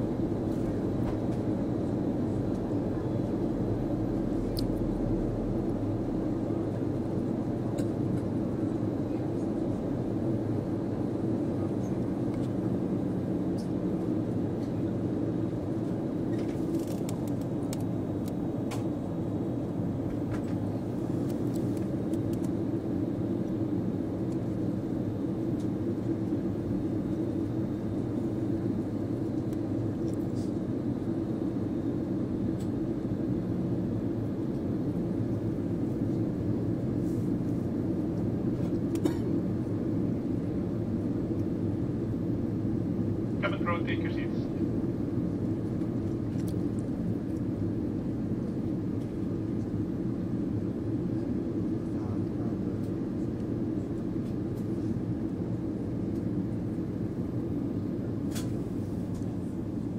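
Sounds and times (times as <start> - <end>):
airplane engine drone in cabin: 0.0 - 59.9.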